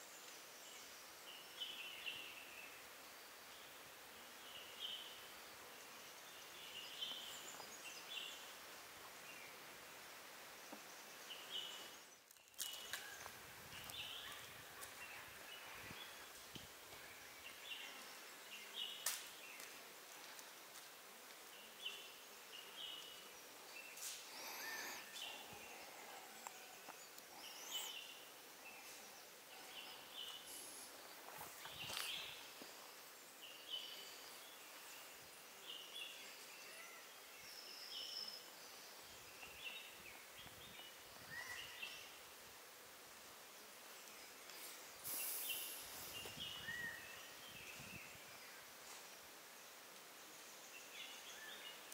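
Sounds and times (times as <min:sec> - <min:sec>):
faint forest ambience: 0:00.0 - 0:51.9.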